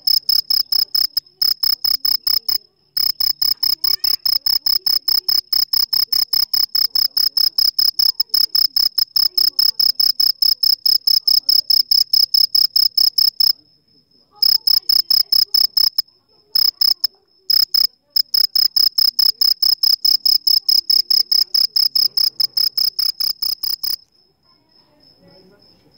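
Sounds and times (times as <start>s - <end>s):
cricket chirping: 0.0s - 25.9s.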